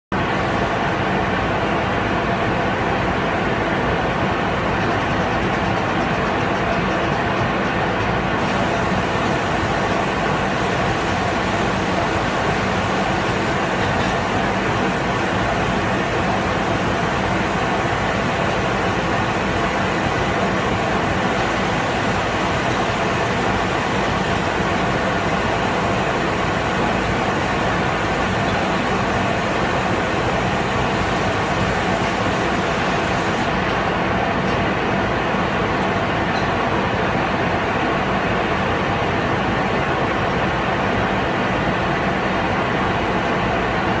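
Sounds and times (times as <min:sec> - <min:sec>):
industrial machinery hum and hiss: 0:00.1 - 0:44.0.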